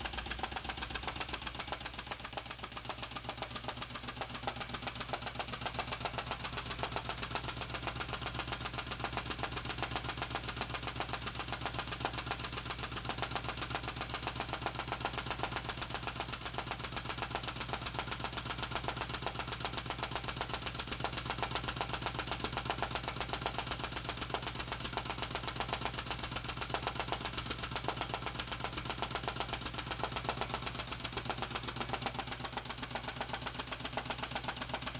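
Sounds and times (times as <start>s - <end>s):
small engine mechanical clatter: 0.0s - 34.9s.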